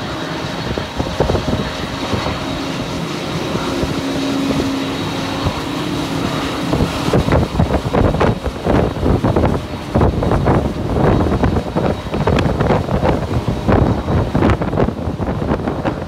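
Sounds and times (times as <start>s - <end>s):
truck engines humming: 0.0s - 15.2s
water rushing from wheels: 0.0s - 16.0s
wind gusts on microphone: 0.0s - 16.0s.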